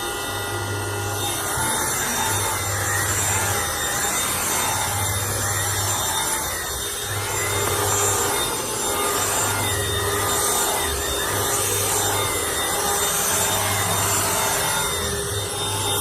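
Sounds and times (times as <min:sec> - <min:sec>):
vacuum cleaner running over carpet: 0:00.0 - 0:16.0.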